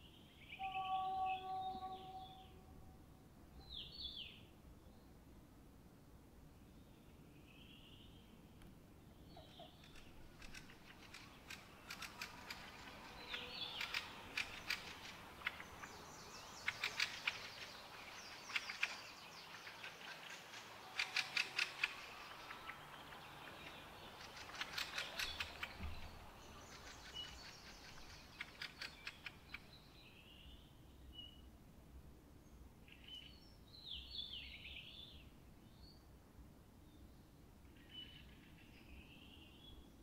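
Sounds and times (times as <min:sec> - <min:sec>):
songbird chattering song: 0:00.0 - 0:02.6, 0:03.6 - 0:05.2, 0:06.7 - 0:31.5, 0:32.5 - 0:36.1, 0:36.8 - 0:39.9.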